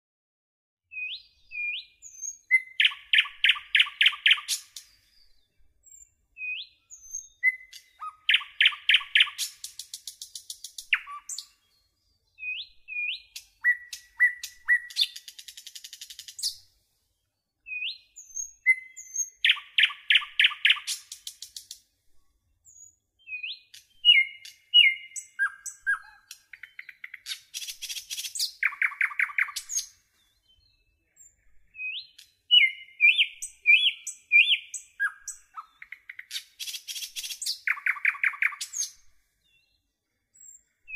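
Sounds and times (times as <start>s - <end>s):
songbird singing whistles and trills: 0.9s - 21.8s, 22.6s - 40.9s.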